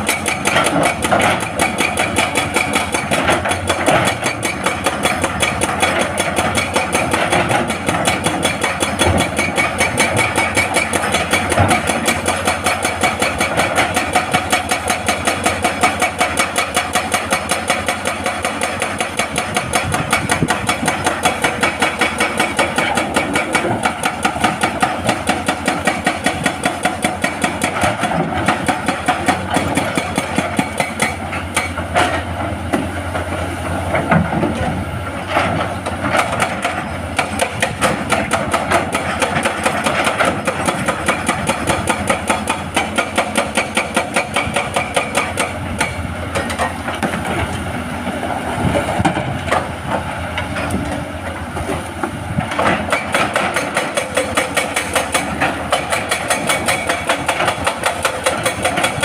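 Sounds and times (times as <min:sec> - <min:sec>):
diesel engine under load: 0:00.0 - 0:59.0
hydraulic breaker hammering rock: 0:00.0 - 0:59.0.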